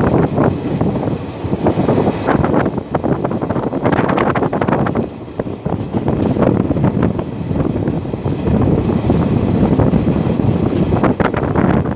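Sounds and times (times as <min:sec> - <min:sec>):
moving vehicle rumble: 0:00.0 - 0:11.9
wind buffeting microphone: 0:00.0 - 0:11.9.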